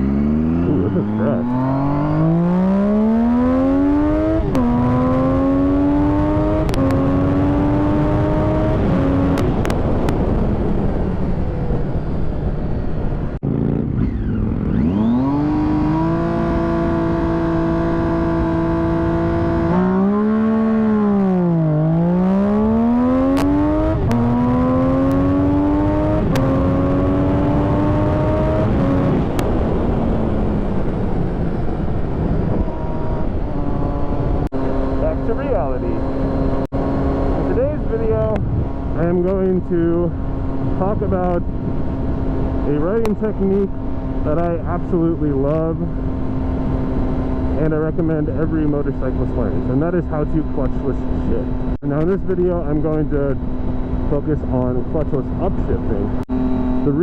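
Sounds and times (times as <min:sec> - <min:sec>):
vehicle engine shifting gears: 0:00.0 - 0:57.0.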